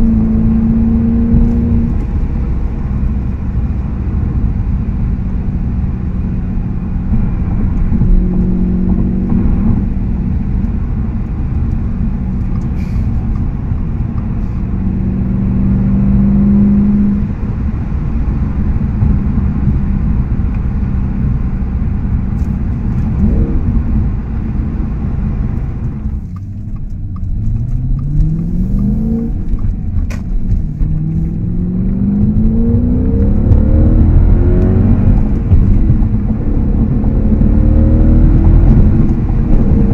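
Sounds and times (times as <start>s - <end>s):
car exhaust drone: 0.0s - 39.9s
engine accelerating hard: 0.0s - 39.9s
road noise: 0.0s - 39.9s.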